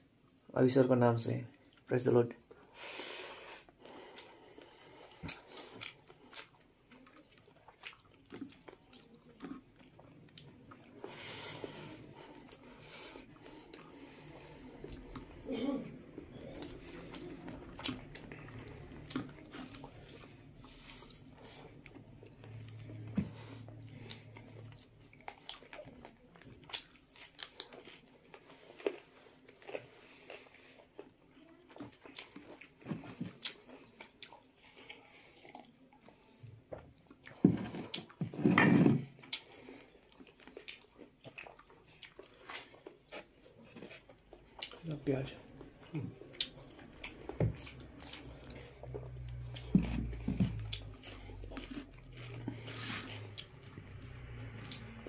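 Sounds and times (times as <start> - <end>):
chewing: 3.5 - 55.0.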